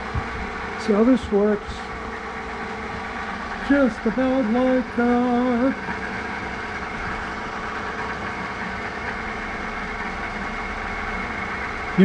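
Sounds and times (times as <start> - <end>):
drill press motor humming: 0.0 - 12.0.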